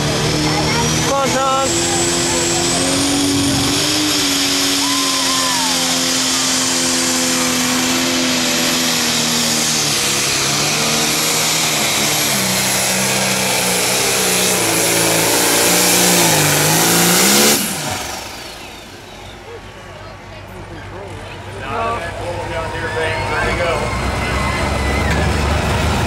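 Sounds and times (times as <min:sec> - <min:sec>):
tractor diesel engine at full throttle: 0:00.0 - 0:26.0.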